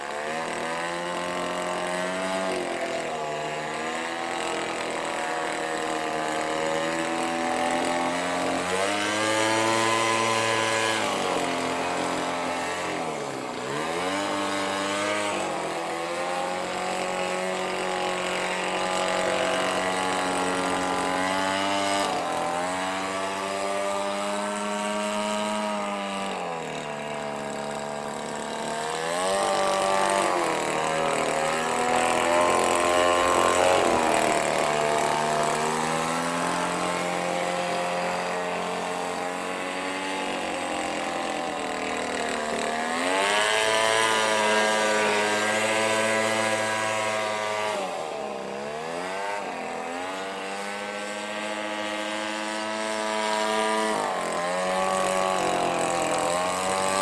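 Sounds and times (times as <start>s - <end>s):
two-stroke engine driving propeller: 0.0s - 57.0s.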